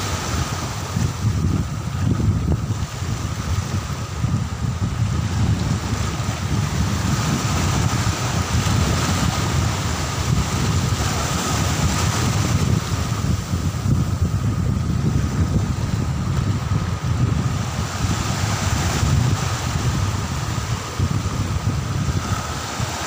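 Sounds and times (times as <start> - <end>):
small waves breaking: 0.0 - 23.0
wind buffeting microphone: 0.0 - 23.0.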